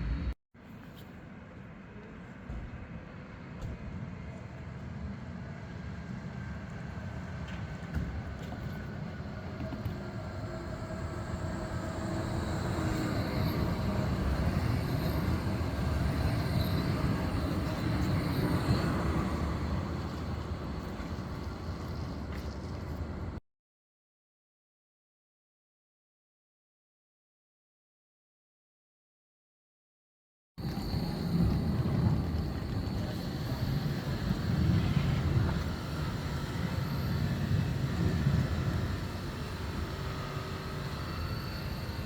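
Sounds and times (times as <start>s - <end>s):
tram running on tracks: 0.0s - 0.4s, 1.2s - 23.4s, 30.6s - 42.0s.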